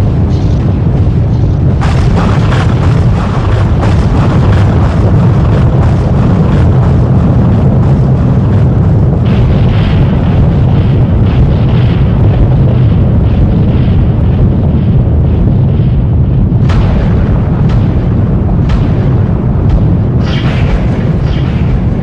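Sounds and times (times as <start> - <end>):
crackles: 0.0 - 22.0
deep continuous rumble: 0.0 - 22.0.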